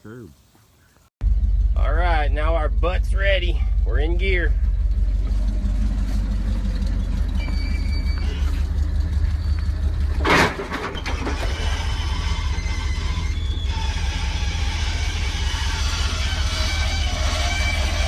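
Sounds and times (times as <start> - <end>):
truck engine rumbling: 1.2 - 18.0.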